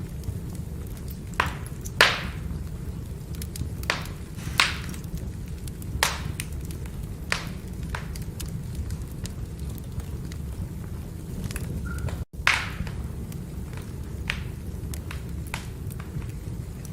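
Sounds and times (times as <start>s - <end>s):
firewood crackling: 0.0s - 16.9s
low rumble of flames: 0.0s - 16.9s
sharp fire pops: 0.0s - 16.9s.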